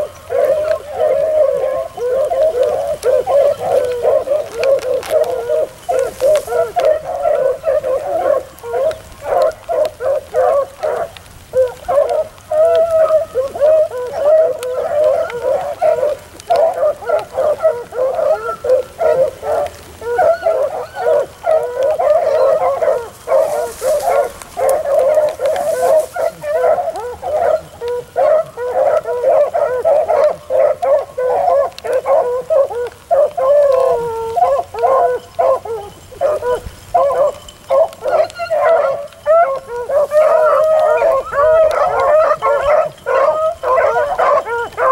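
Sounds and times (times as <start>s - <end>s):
beagles baying together: 0.0s - 44.9s.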